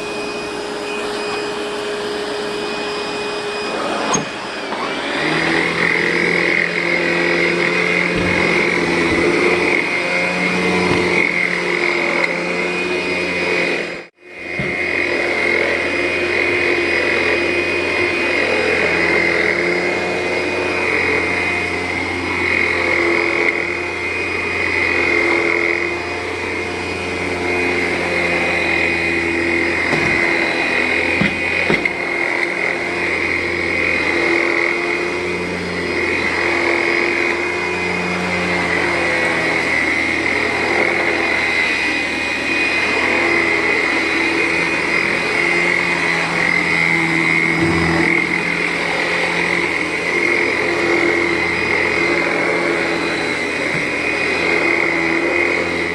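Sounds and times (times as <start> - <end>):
vacuum cleaner on carpet: 0.0 - 55.9.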